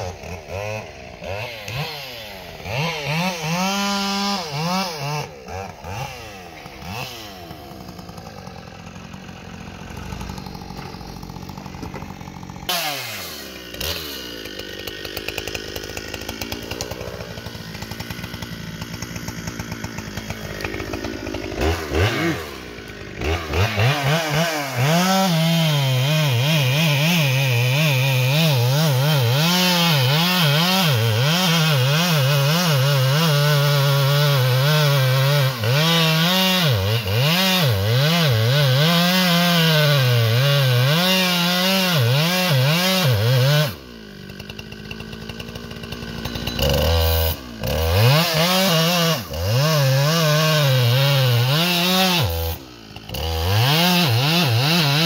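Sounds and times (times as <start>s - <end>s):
chainsaw revving and cutting: 0.0s - 55.0s.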